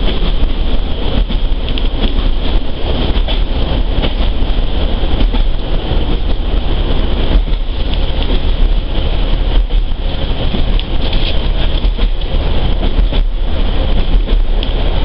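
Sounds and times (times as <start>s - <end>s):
diesel engine drone: 0.0s - 15.0s
train wheels on track: 0.0s - 15.0s.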